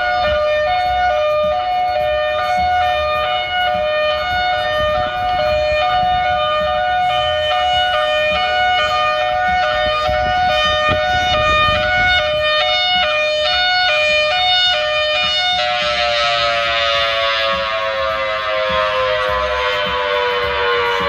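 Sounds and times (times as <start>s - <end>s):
two-pitch air raid siren: 0.0s - 21.0s.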